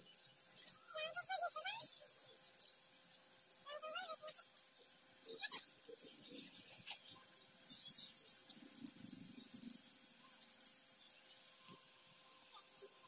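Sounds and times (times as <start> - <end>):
fritters sizzling in hot oil: 0.0 - 13.0.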